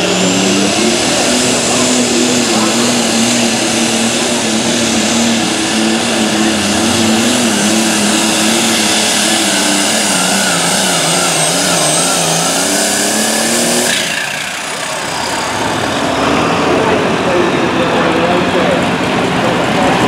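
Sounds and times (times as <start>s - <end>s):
tractor engine running hard: 0.0s - 20.0s.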